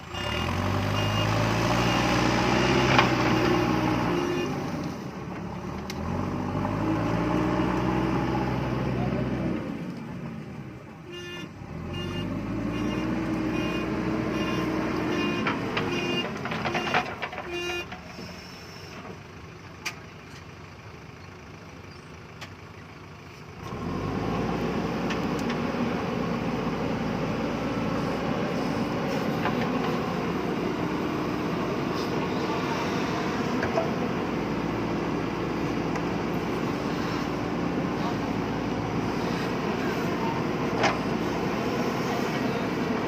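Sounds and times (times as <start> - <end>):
backhoe diesel engine working: 0.0 - 43.0.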